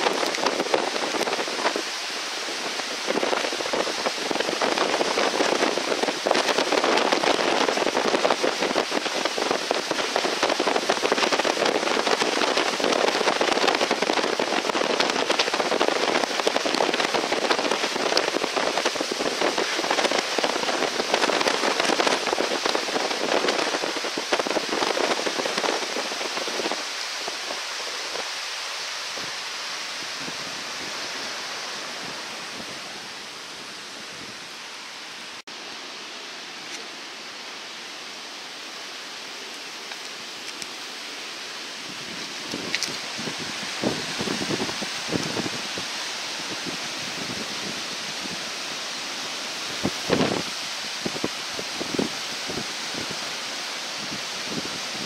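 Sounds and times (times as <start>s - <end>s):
floodwater rushing and churning: 0.0s - 55.0s.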